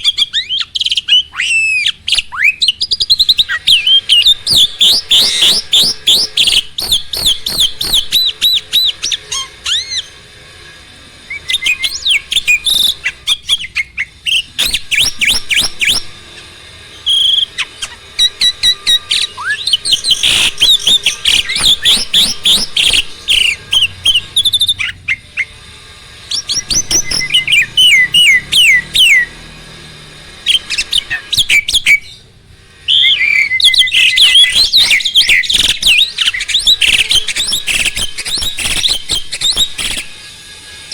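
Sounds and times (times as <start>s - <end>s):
starling chirping and whistling: 0.0s - 40.9s.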